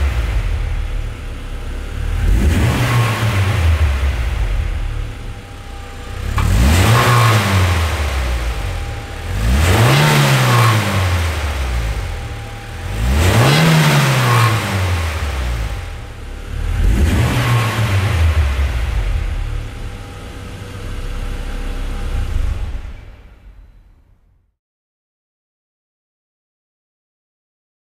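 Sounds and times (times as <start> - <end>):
car engine revving: 0.0 - 24.1.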